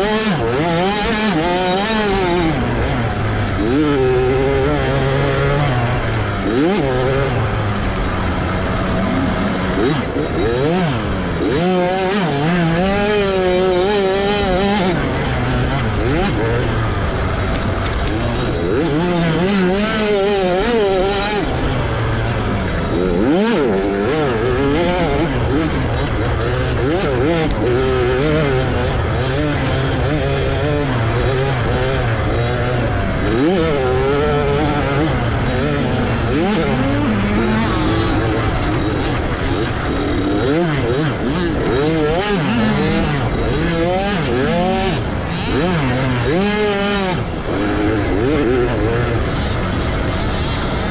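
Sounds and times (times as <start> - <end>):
steady rush of noise: 0.0 - 50.9
two-stroke motorbike engine revving: 0.0 - 50.9.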